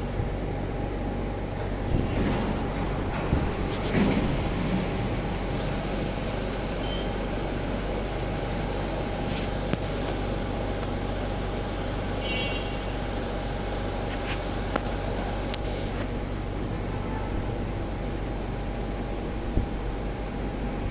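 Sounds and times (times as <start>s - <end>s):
machinery hum: 0.0s - 20.9s.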